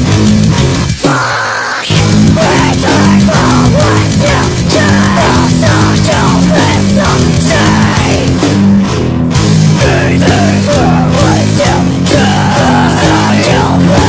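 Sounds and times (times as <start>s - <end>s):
pitched-up heavy metal song: 0.0s - 14.0s.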